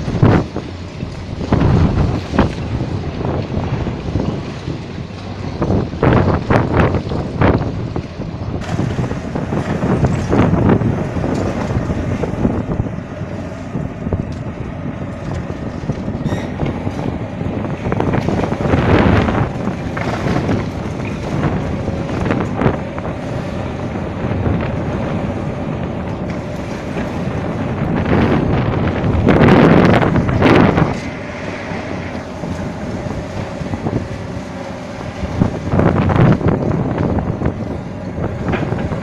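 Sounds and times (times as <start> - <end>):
diesel engine running: 0.0 - 39.0
wind buffeting microphone: 0.0 - 39.0.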